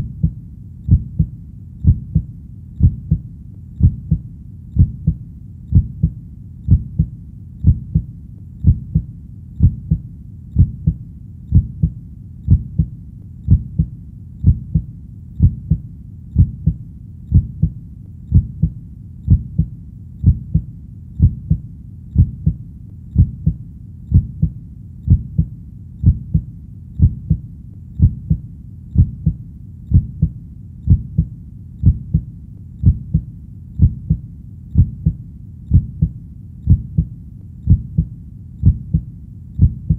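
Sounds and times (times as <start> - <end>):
heartbeat thumps: 0.0 - 28.4, 29.0 - 39.9.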